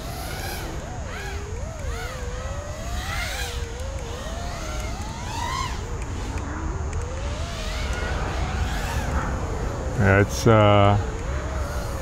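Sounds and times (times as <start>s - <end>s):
drone motors whining: 0.0s - 12.0s
steady low rumble: 0.0s - 12.0s.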